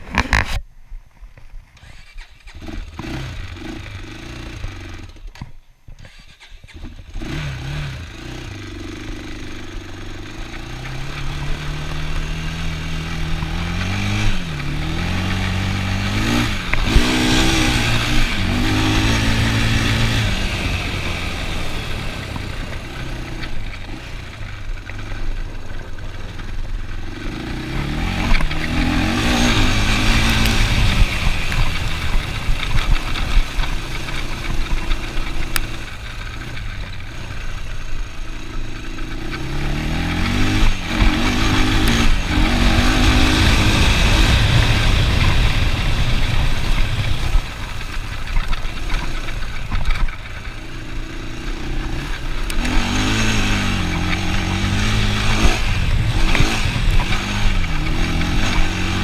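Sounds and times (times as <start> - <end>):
atv engine accelerating: 1.8 - 59.0.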